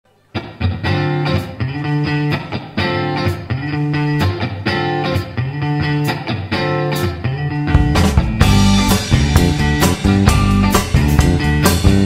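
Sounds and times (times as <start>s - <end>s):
rock band playing: 0.4s - 12.0s.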